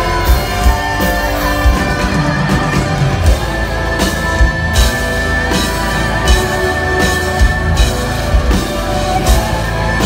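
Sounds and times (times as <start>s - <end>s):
drums keeping a steady beat: 0.0s - 10.0s
guitars and keyboards: 0.0s - 10.0s.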